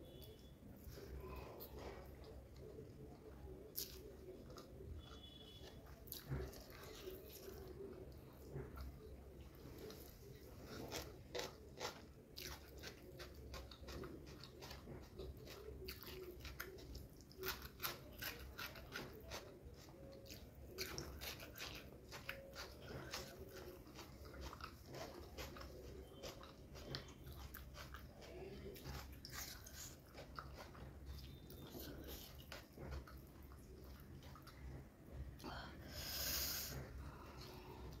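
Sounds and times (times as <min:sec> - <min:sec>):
wet chewing and mouth smacks: 0:00.2 - 0:34.9.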